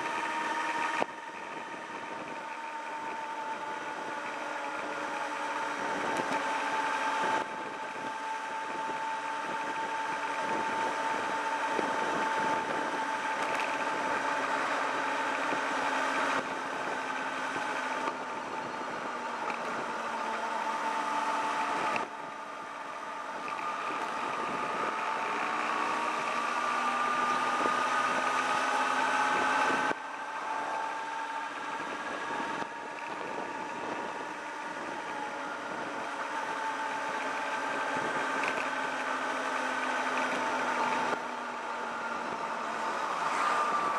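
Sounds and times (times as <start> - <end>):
motorcycle engine running: 0.0 - 43.9
wind noise: 0.0 - 43.9.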